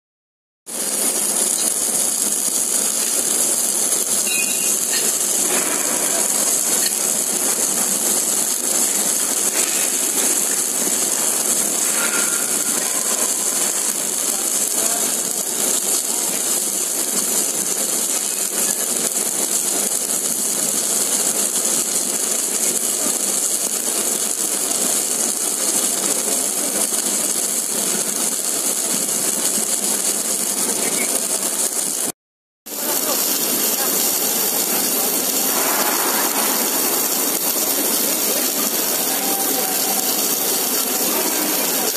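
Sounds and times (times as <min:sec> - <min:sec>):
running machinery: 0:00.7 - 0:32.1, 0:32.7 - 0:41.9
welding hiss: 0:00.7 - 0:41.9.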